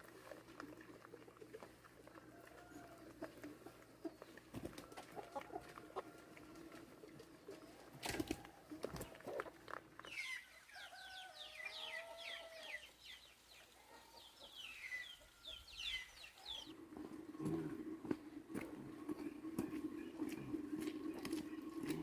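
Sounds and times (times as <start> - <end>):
chickens peeping: 2.0 - 22.0.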